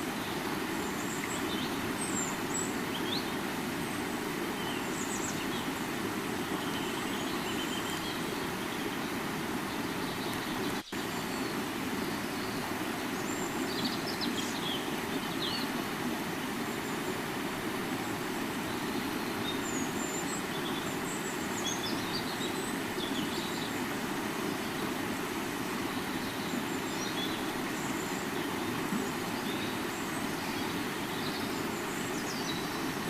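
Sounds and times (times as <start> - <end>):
river water flowing: 0.0 - 33.0
small birds chirping: 0.1 - 15.8, 18.6 - 25.0, 25.8 - 33.0.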